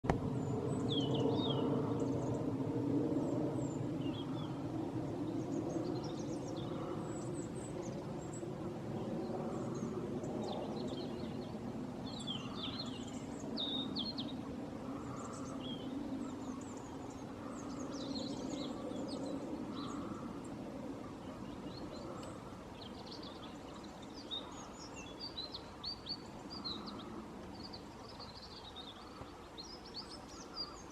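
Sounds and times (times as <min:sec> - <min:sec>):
small birds chirping: 0:00.1 - 0:02.5, 0:03.1 - 0:30.9.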